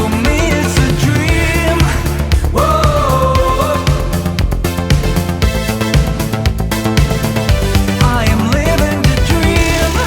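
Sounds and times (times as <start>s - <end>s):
fast steady beat: 0.0s - 10.0s.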